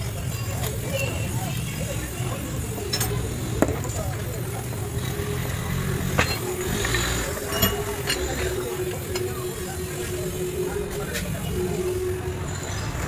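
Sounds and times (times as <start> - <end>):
steady hum: 1.6 - 13.0.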